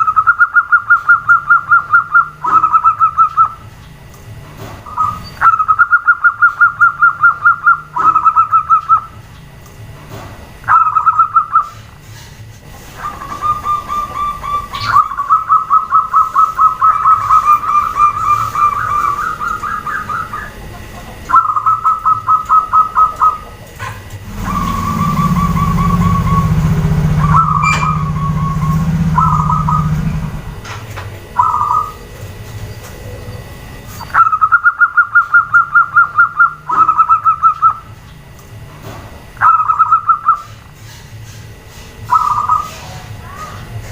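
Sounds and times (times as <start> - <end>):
doves calling in pulsed trills: 0.0 - 3.8, 4.8 - 9.3, 10.6 - 11.9, 12.8 - 23.6, 24.2 - 30.6, 31.3 - 38.2, 39.4 - 41.4, 42.0 - 43.8
loud low hum: 0.0 - 43.9.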